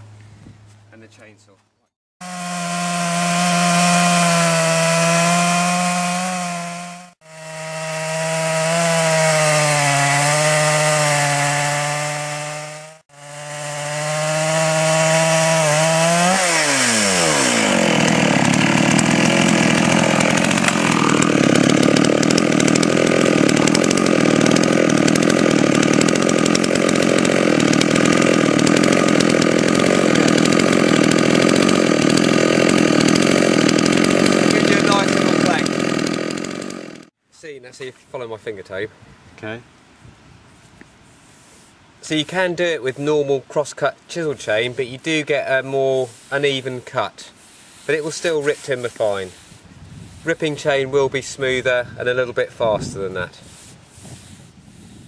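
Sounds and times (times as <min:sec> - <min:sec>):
chainsaw cutting through log: 0:02.2 - 0:37.2, 0:42.0 - 0:55.0.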